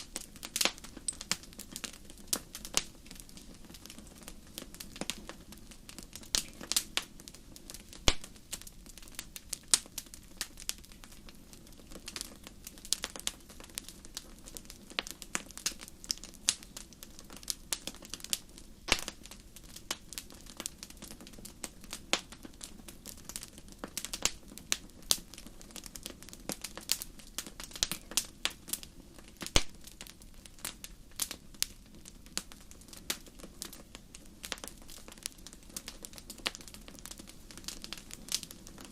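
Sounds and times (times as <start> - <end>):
burning logs crackling and popping: 0.0 - 38.9
low noise of flames: 0.0 - 38.9.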